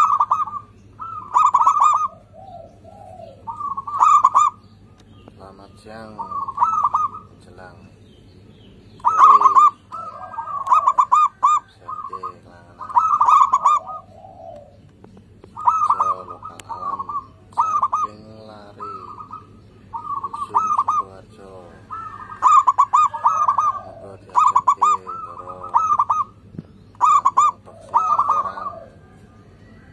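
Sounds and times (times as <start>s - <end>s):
dove cooing: 0.0s - 7.9s, 8.9s - 29.9s
fainter lower bird calls: 0.0s - 29.9s.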